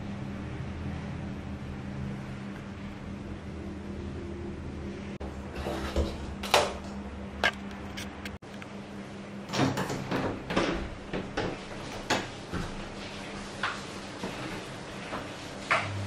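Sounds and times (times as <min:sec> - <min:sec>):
exhaust fan humming: 0:00.0 - 0:16.0.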